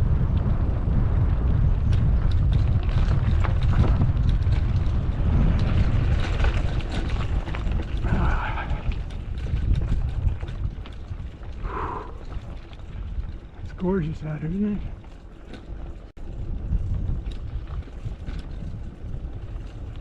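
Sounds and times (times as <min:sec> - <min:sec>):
bike clicks and rattles: 0:00.0 - 0:20.0
wind buffeting microphone: 0:00.0 - 0:20.0.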